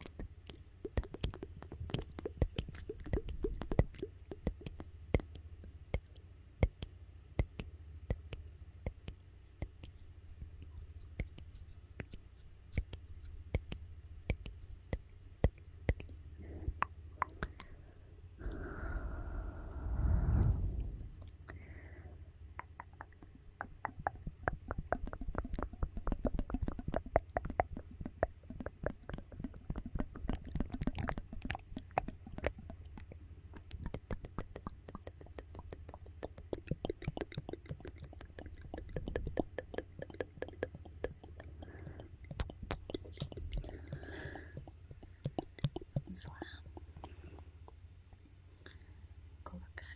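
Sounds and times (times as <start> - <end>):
wet mouth clicks and smacks: 0.0 - 17.7, 22.4 - 48.8.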